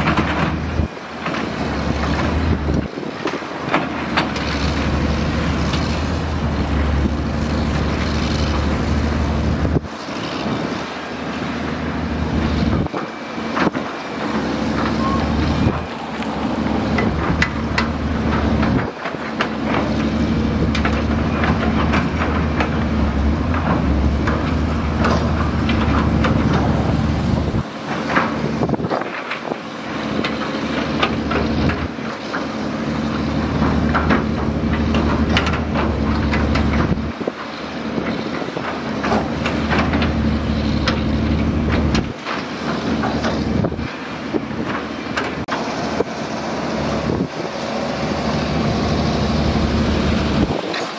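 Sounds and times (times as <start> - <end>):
heavy diesel engine under load: 0.0 - 50.9.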